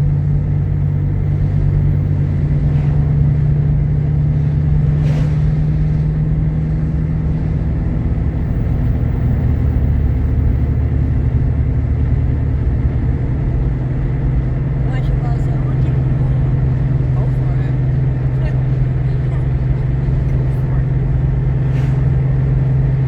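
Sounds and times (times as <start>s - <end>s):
car engine droning: 0.0s - 23.0s
road noise: 0.0s - 23.0s.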